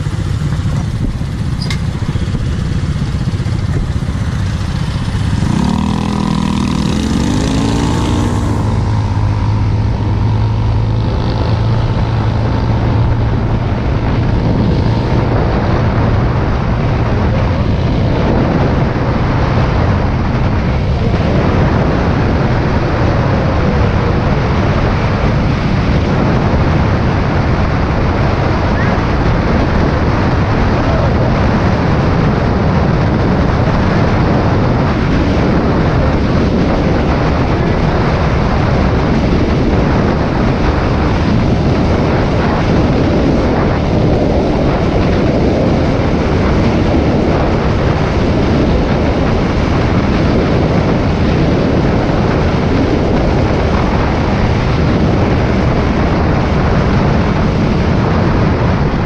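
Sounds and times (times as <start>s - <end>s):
scooter engine at top speed: 0.0s - 59.0s
wind rushing over microphone: 0.0s - 59.0s.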